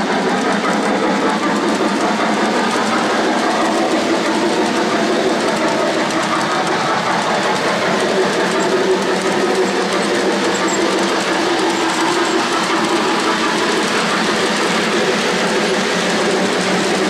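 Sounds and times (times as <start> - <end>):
model train wheels rumbling on track: 0.0 - 17.0.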